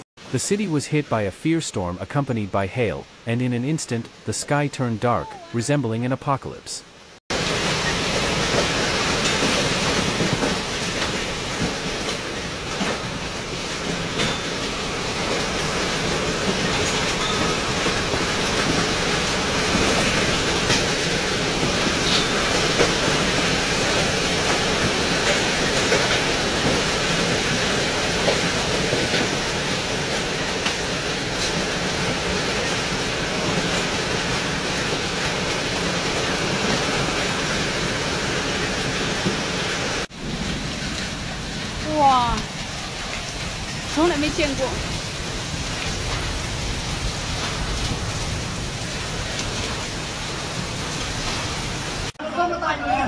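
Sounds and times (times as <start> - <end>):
heavy rain and hail: 7.0 - 52.2.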